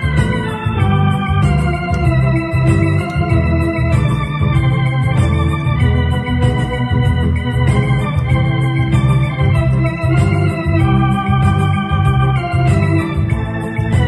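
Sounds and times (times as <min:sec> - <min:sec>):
electronic keyboard organ chords: 0:00.0 - 0:14.0
light ticking rhythm: 0:00.0 - 0:14.0
pulsing bass line: 0:00.0 - 0:14.0.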